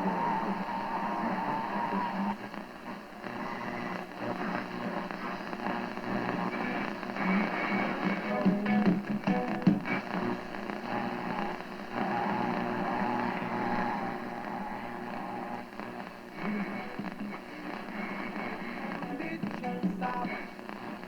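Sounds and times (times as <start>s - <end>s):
radio broadcast fragments: 0.0s - 21.0s
radio static crackling: 0.0s - 21.0s.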